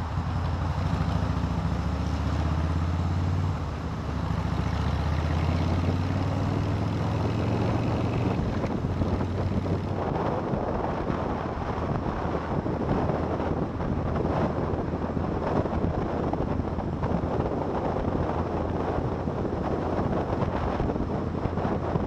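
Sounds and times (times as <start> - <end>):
motorcycle engine running: 0.0 - 22.0
wind rushing on microphone: 0.0 - 22.0.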